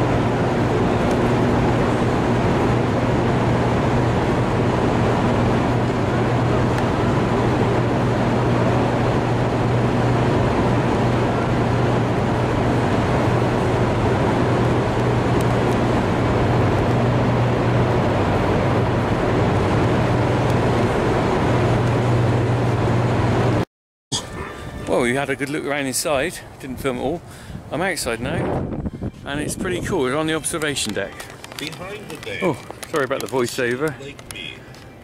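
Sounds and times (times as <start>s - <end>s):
generator hall machine drone: 0.0s - 23.6s, 24.2s - 35.0s.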